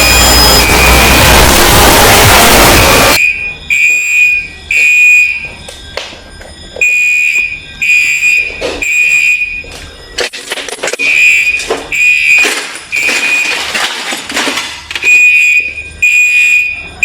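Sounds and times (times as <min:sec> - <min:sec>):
alarm clock beeping: 0:00.0 - 0:13.9, 0:14.9 - 0:17.0.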